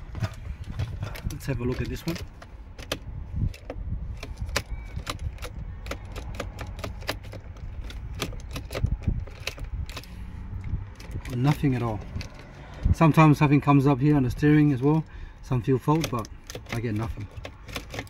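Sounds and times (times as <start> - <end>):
wind rumble on microphone: 0.0 - 14.8
key fob clicks and taps: 0.1 - 12.8, 15.8 - 18.0.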